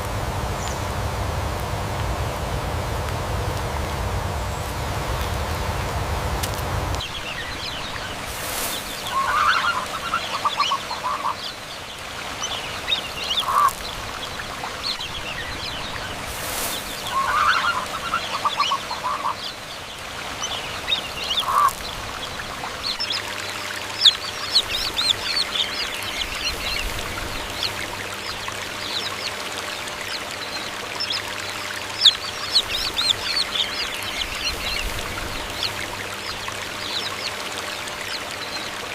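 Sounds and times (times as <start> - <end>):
peafowl honking calls: 7.0 - 38.9
small birds chirping: 7.0 - 38.9.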